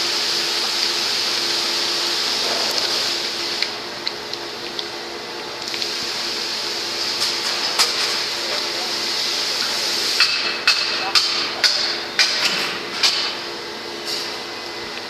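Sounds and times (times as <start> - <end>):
furnace and machinery humming: 0.0 - 15.0.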